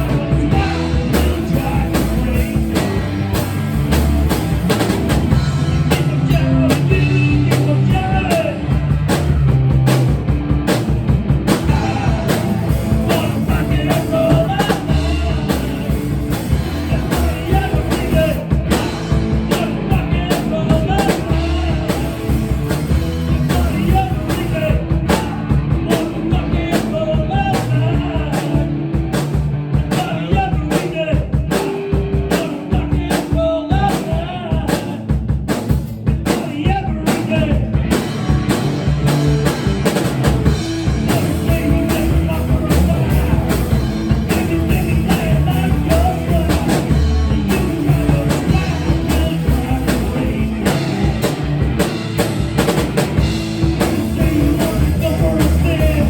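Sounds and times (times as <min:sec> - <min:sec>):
drum kit beat: 0:00.0 - 0:56.0
rock music: 0:00.0 - 0:56.0.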